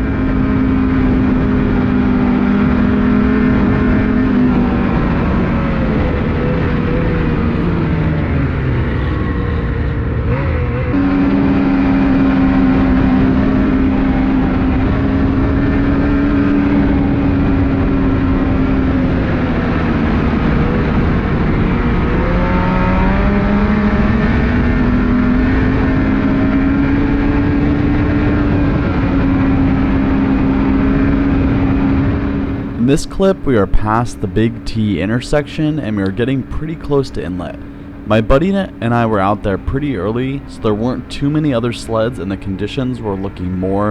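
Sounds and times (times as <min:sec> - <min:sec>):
snowmobile engine running: 0:00.0 - 0:43.9
snowmobile track noise: 0:00.0 - 0:43.9
wind: 0:00.0 - 0:43.9.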